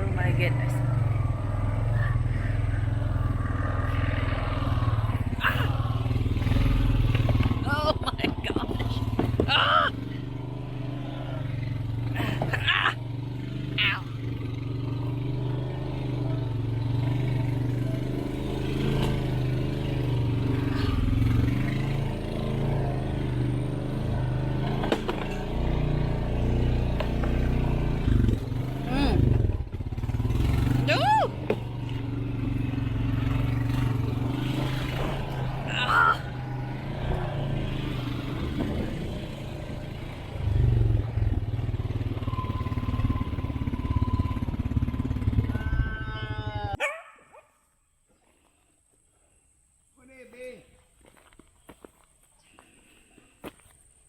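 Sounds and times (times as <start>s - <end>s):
off-road vehicle engine running: 0.0s - 46.8s.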